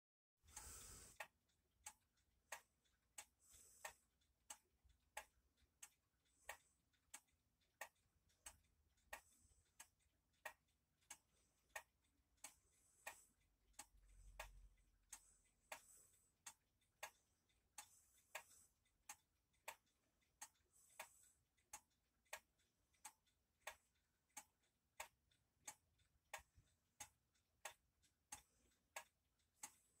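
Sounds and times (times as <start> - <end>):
pendulum clock ticking: 0.4 - 30.0.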